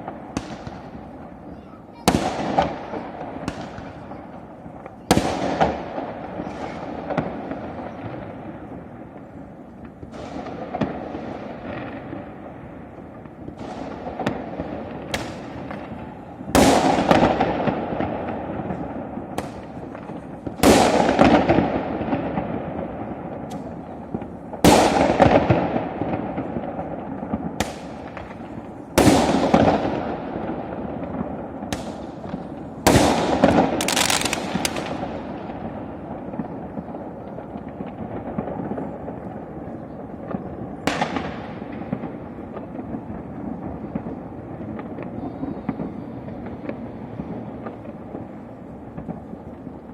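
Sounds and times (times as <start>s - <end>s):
small firework pops: 0.0s - 1.3s, 2.0s - 12.3s, 13.0s - 30.1s, 30.9s - 35.7s, 36.3s - 49.9s
fireworks bangs with rumble: 0.0s - 49.9s.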